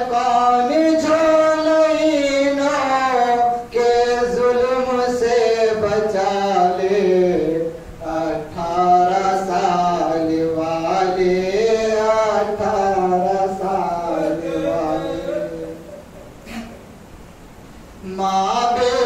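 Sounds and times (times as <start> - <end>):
man chanting into microphone: 0.0 - 16.2, 18.0 - 19.0.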